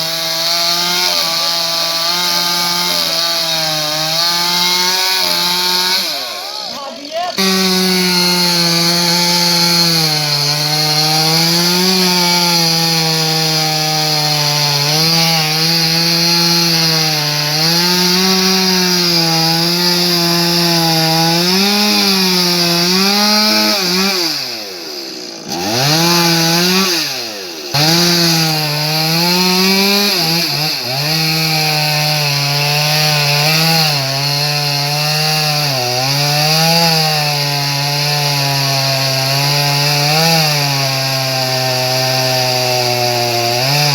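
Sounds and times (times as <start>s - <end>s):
chainsaw cutting tree: 0.0s - 43.9s.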